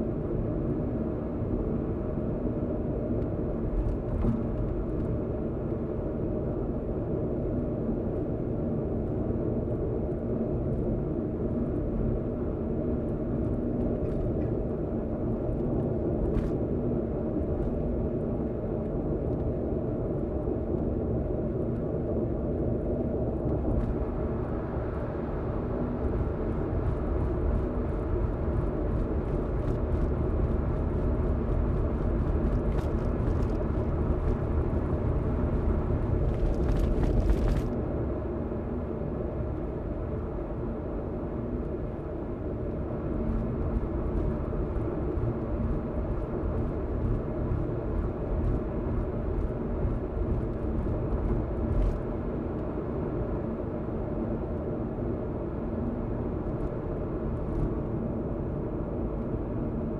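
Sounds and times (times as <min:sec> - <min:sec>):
car road and engine rumble: 0:00.0 - 0:59.9
faint steady hum: 0:00.0 - 0:59.9.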